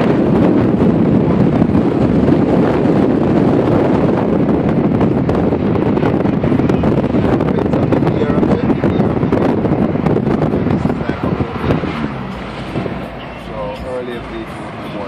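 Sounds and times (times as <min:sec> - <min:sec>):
wind and road noise: 0:00.0 - 0:15.0
wind buffeting microphone: 0:00.0 - 0:15.0.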